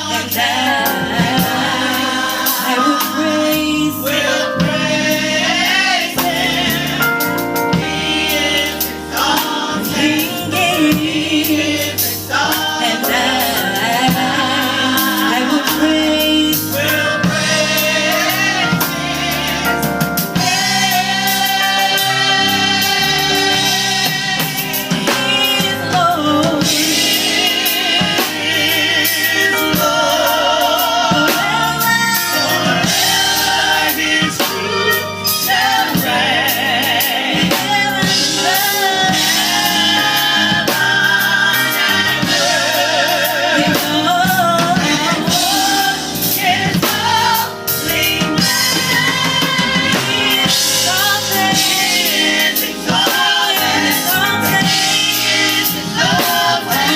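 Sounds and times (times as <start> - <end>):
drum kit: 0.0 - 56.9
gospel singing: 0.0 - 56.9.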